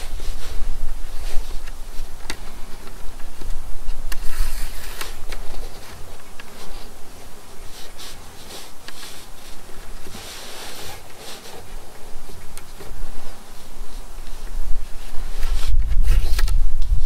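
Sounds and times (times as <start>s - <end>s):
cord rustling around sticks: 0.0s - 17.0s
wind rumble on microphone: 0.0s - 17.0s.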